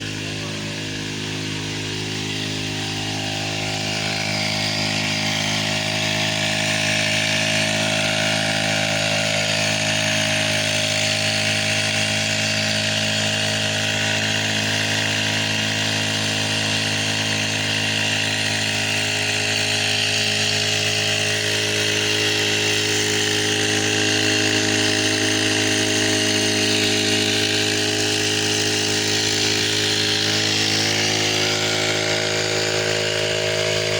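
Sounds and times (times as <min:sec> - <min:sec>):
chainsaw engine running: 0:00.0 - 0:33.9.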